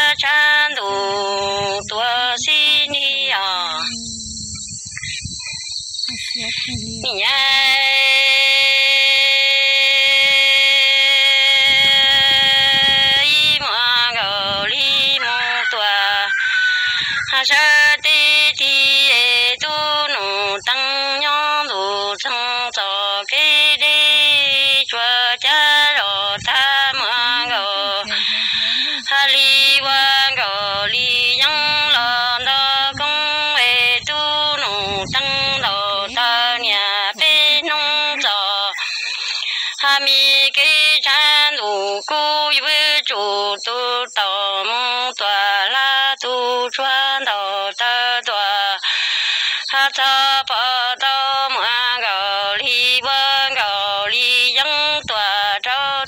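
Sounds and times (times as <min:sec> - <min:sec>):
person singing unaccompanied: 0:00.0 - 0:56.0.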